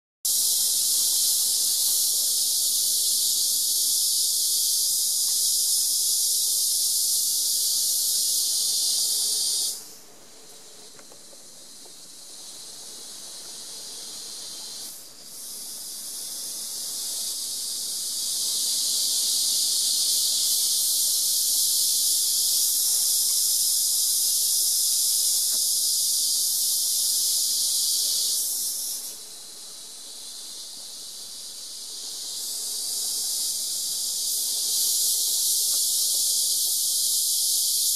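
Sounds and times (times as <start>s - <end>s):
high-pitched insect drone: 0.3s - 10.0s, 12.1s - 37.9s.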